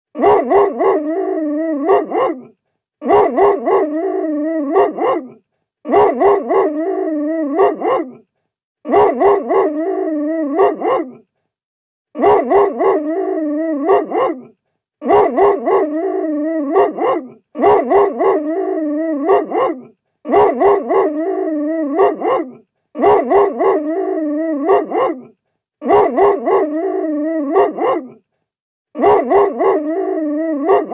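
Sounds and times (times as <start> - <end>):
big dog barking angrily: 0.2 - 8.2, 8.8 - 11.2, 12.2 - 28.2, 29.0 - 30.9.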